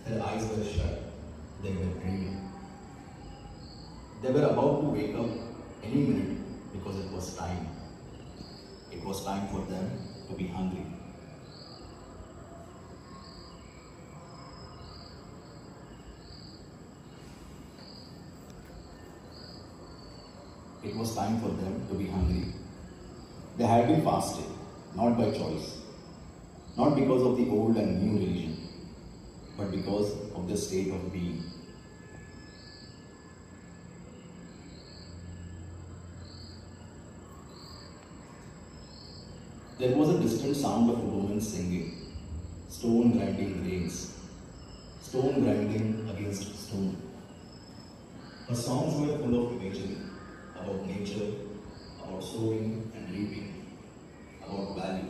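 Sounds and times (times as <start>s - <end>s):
crickets chirping: 0.0s - 55.0s
faint steady hiss: 0.0s - 55.0s.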